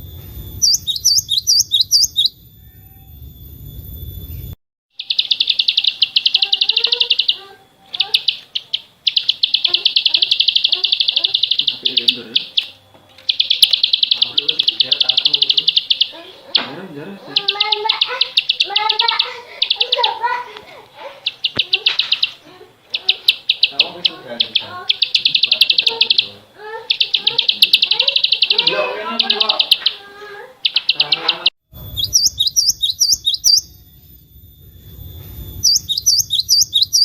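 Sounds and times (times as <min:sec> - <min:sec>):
soft lower chirps: 0:00.0 - 0:16.5, 0:21.1 - 0:37.0
small bird singing high trills: 0:00.0 - 0:20.4, 0:21.0 - 0:37.0
high bird chirps: 0:00.0 - 0:37.0
low background noise: 0:05.0 - 0:37.0.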